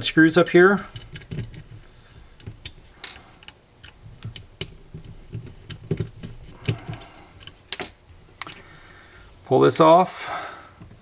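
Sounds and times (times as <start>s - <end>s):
metal parts being handled: 0.0s - 8.8s.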